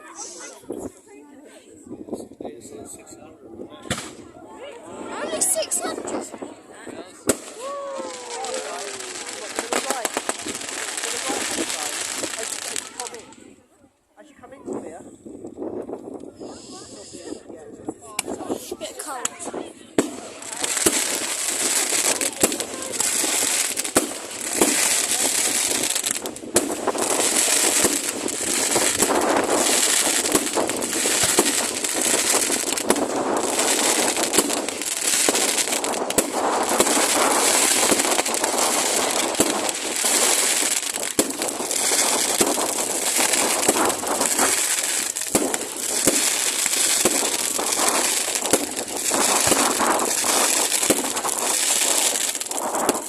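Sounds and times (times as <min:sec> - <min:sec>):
fireworks crackling: 0:00.0 - 0:01.0, 0:03.8 - 0:13.6, 0:14.4 - 0:53.0
fireworks bangs: 0:03.8 - 0:04.3, 0:04.9 - 0:13.5, 0:18.0 - 0:53.0.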